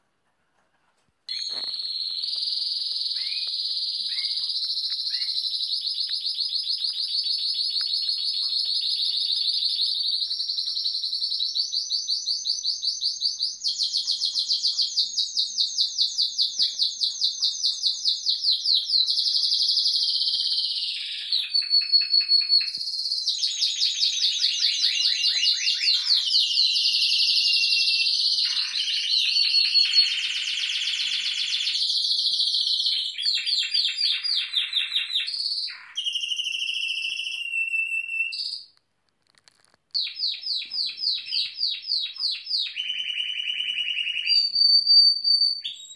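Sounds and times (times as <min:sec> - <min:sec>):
canaries singing rolls and trills: 0:01.3 - 0:38.8, 0:39.5 - 0:45.9.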